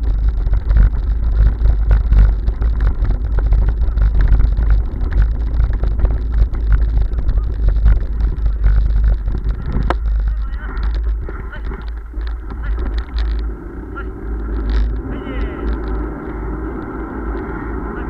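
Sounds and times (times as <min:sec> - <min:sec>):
bicycle rattling over cobblestones: 0:00.0 - 0:18.0
wind on microphone: 0:00.0 - 0:18.0.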